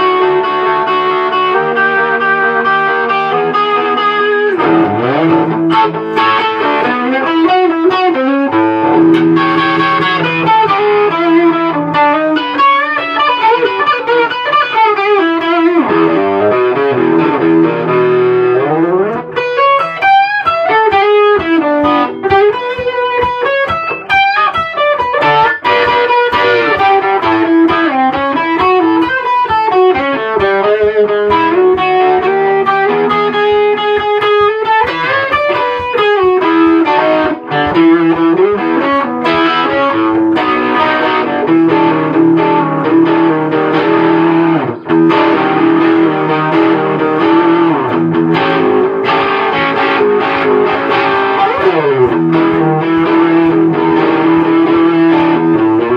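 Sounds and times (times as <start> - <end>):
distorted electric guitar lead: 0.0 - 55.9.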